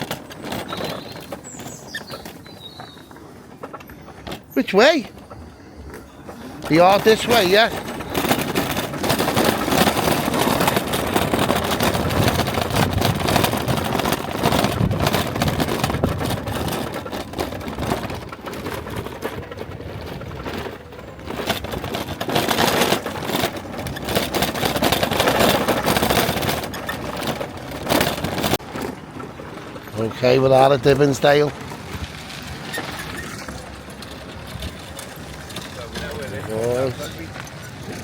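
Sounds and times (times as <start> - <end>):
road noise: 0.0 - 38.0
car engine: 3.2 - 38.0.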